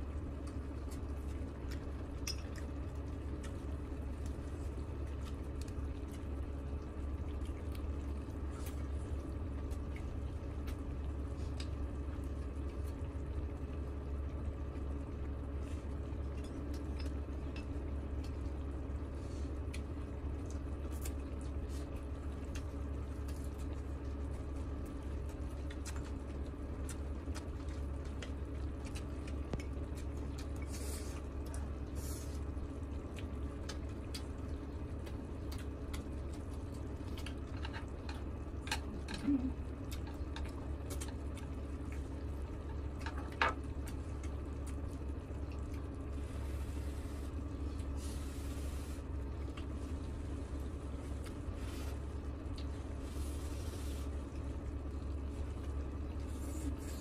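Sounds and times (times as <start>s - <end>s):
low hum: 0.0s - 57.0s
close chewing: 0.2s - 13.1s, 15.6s - 57.0s.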